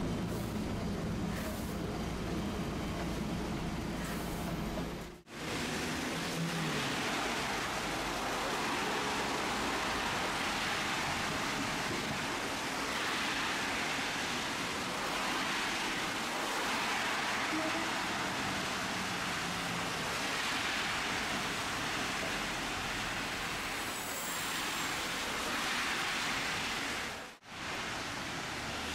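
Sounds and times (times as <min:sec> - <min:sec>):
tram running noise: 0:00.0 - 0:28.9
heavy rain hissing: 0:03.7 - 0:28.9.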